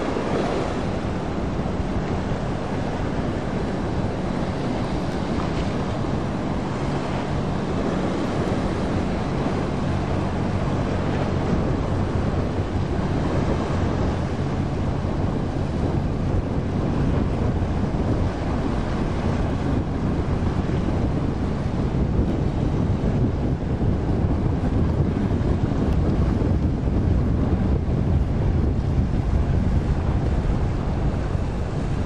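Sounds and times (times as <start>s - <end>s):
boat engine hum: 0.0s - 32.0s
wake and sea water rushing: 0.0s - 32.0s
wind on microphone: 0.0s - 32.0s.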